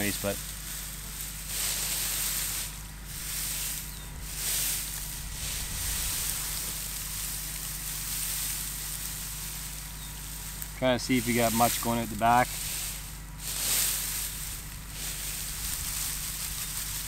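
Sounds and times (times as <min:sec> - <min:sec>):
dry straw rustling and crackling: 0:00.0 - 0:17.0
faint low hum: 0:00.0 - 0:17.0.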